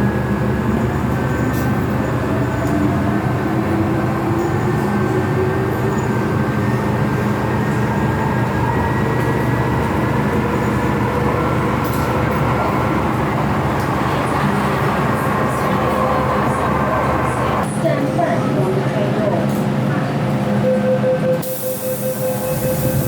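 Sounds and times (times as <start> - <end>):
metro train rumble: 0.0 - 23.0.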